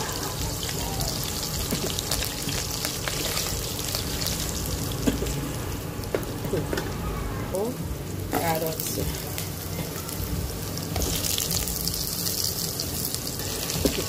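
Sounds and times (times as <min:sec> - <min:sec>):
garlic and onion sizzling in oil: 0:00.0 - 0:14.0.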